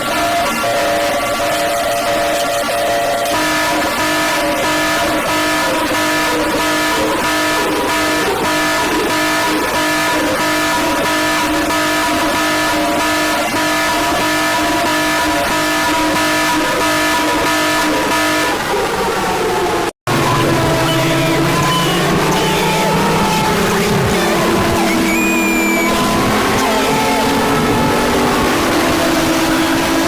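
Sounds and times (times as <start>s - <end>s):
distorted alarm tone: 0.0s - 30.0s.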